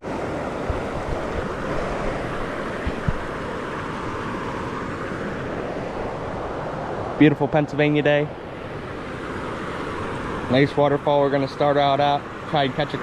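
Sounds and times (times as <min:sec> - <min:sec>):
creek waterfall rushing: 0:00.0 - 0:13.0.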